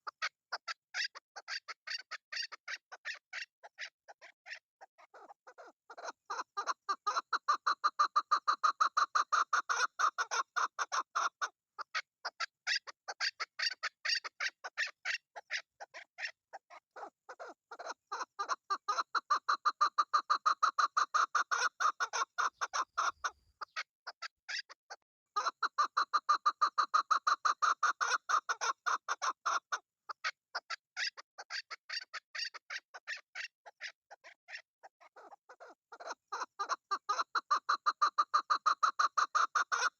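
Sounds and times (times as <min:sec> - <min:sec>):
partridge calling: 0:00.0 - 0:24.8, 0:25.4 - 0:39.9.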